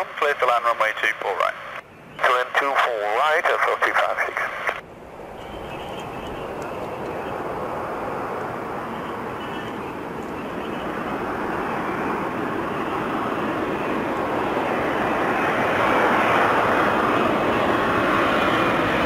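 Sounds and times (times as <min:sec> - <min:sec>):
jet airliner engine rushing: 0:00.0 - 0:19.0.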